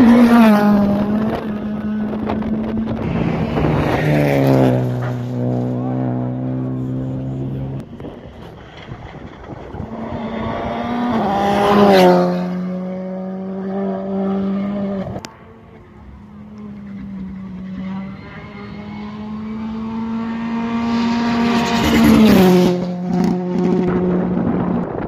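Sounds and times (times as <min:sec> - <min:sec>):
rally car engines passing: 0:00.0 - 0:25.0.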